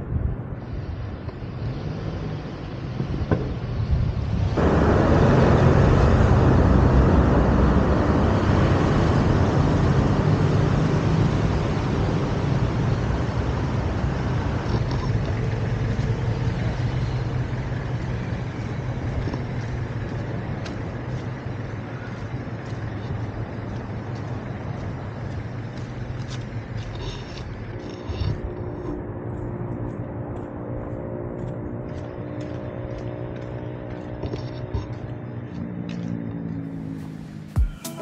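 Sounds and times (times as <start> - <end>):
heavy vehicle engine running: 0.0 - 38.0.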